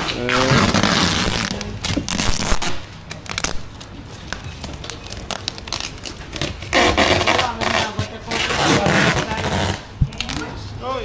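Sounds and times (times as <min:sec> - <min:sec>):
plastic bags crinkling: 0:00.3 - 0:10.5.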